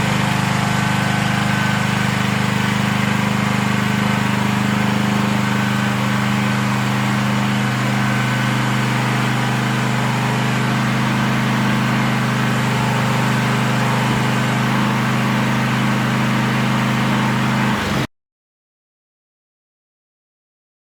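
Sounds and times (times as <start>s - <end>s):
mini excavator engine idling: 0.0s - 18.1s.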